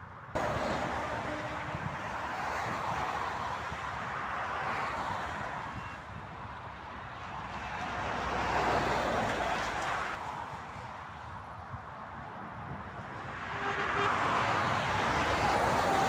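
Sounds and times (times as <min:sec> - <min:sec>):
motorway traffic passing: 0:00.0 - 0:16.0.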